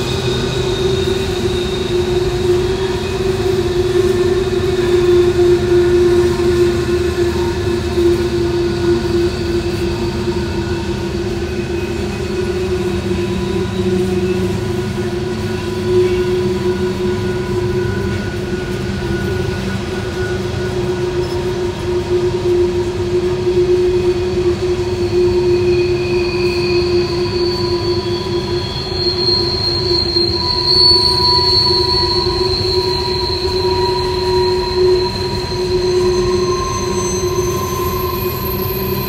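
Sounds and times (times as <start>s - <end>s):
rumble of passing train cars: 0.0s - 39.0s
train wheels squealing: 0.0s - 39.0s.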